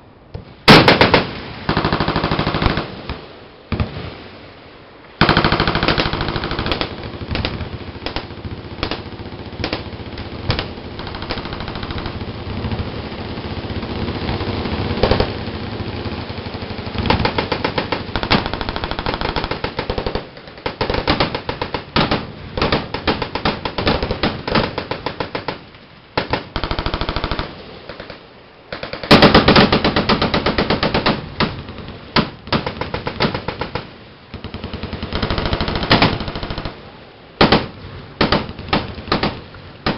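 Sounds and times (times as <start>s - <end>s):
machine guns firing bursts: 0.7s - 2.9s, 5.2s - 25.6s, 26.2s - 36.8s.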